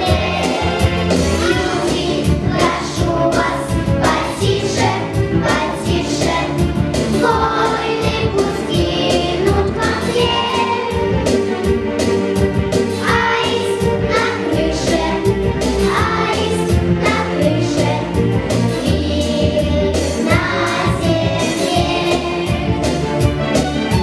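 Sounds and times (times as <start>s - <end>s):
children's choir singing: 0.0s - 11.5s, 12.9s - 23.2s
instrumental backing track: 0.0s - 24.0s.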